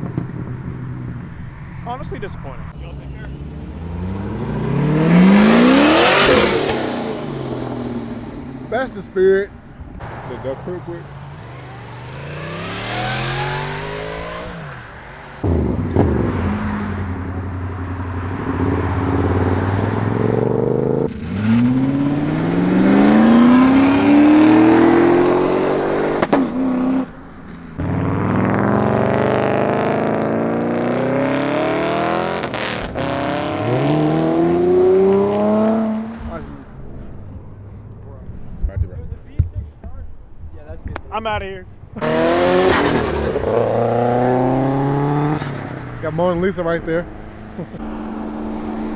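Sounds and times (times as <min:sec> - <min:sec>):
car engines revving: 0:00.0 - 0:48.9.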